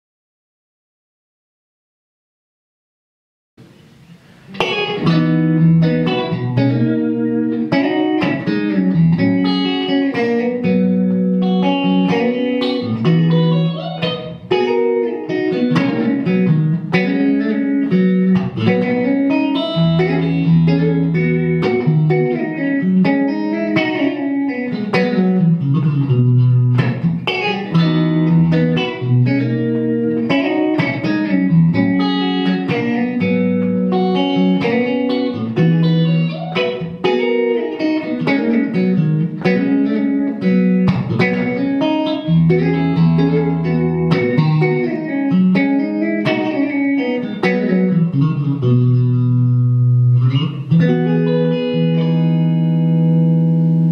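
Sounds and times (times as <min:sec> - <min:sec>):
electric guitar melody: 0:03.6 - 0:53.9.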